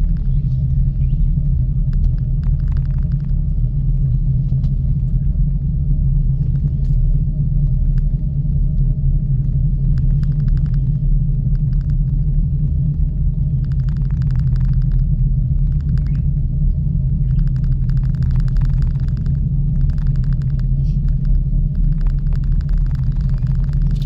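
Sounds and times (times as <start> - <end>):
rapid rattling clicks: 0.0 - 5.2, 6.3 - 16.4, 17.2 - 24.0
gondola rumble and hum: 0.0 - 24.0.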